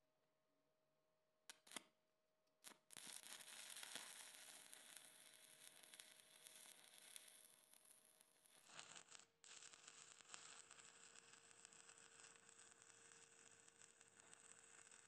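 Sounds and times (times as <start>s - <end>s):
welding arc snaps: 1.5s - 1.9s, 2.6s - 15.0s
arc welding crackling hiss: 2.6s - 15.0s.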